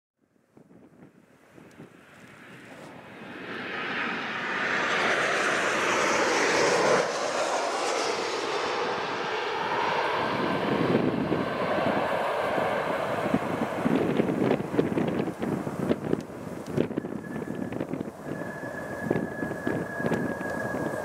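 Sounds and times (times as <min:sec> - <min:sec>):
turboprop engines at takeoff power: 0:00.9 - 0:21.0.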